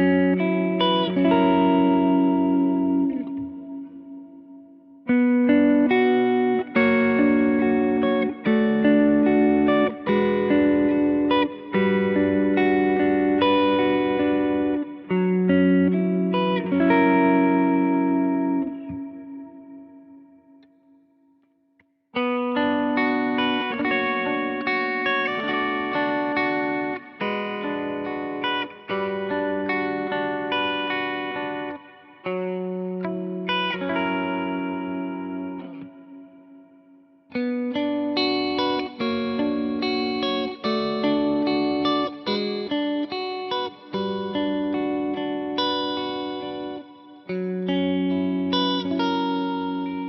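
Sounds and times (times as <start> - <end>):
electric guitar through amplifier: 0.0 - 21.4, 22.2 - 50.0.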